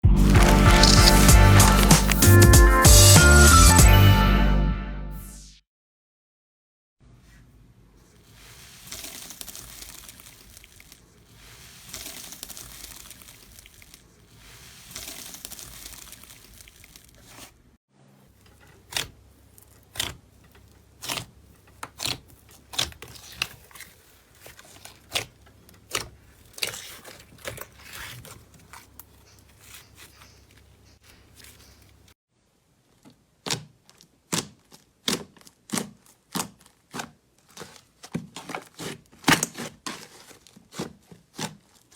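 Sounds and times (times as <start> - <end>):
slime crinkling and crackling: 0.2 - 2.4, 8.1 - 32.2, 32.9 - 41.9.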